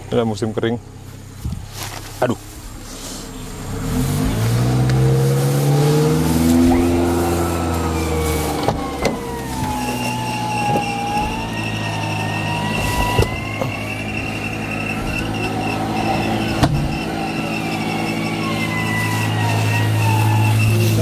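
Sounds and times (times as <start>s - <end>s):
off-road vehicle engine revving: 0.0s - 21.0s
higher whine: 2.4s - 21.0s
winch whining: 3.8s - 21.0s.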